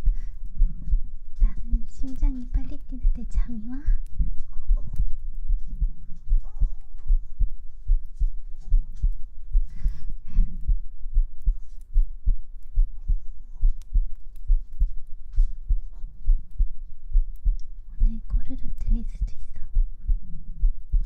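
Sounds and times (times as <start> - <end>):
amplified heartbeat: 0.0 - 21.0.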